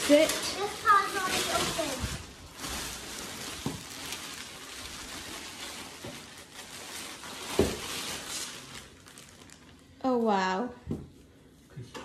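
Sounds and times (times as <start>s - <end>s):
plastic wrapping crinkling: 0.0s - 10.7s.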